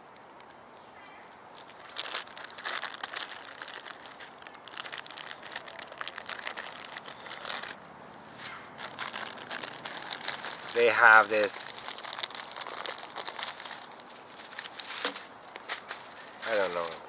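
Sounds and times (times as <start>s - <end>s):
packaging crinkling and rustling: 1.6s - 17.0s.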